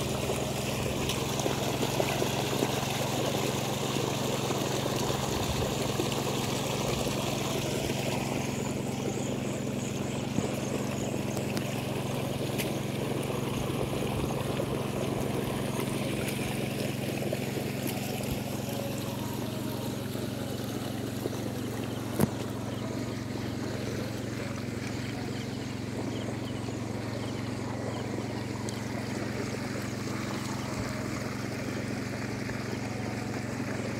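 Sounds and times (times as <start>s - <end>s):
engine humming: 0.0s - 33.9s
water running and trickling: 0.0s - 33.9s.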